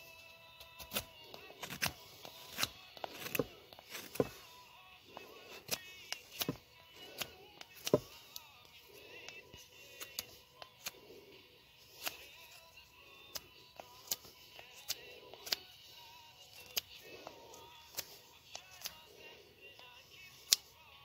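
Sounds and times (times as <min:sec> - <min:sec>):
faint background music: 0:00.0 - 0:21.0
knife shaving wood: 0:00.0 - 0:21.0.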